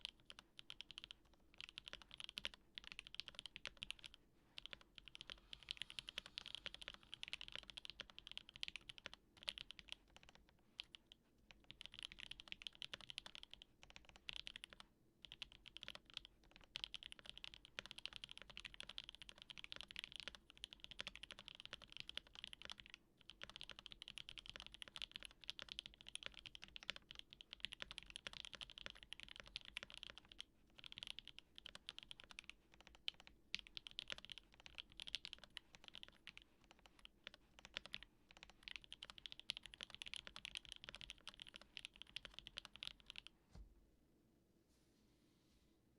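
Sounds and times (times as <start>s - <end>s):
mechanical keyboard typing: 0.0s - 43.3s.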